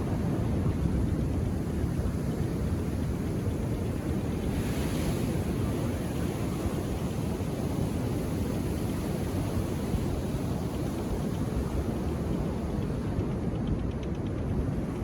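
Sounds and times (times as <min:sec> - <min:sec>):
ocean waves washing on beach: 0:00.0 - 0:15.0.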